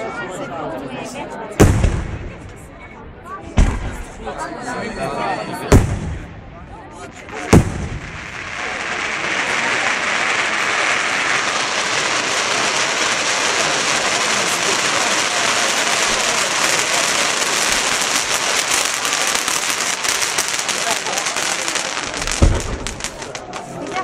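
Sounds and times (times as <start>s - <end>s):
fireworks crackling: 1.6s - 3.0s, 5.7s - 24.0s.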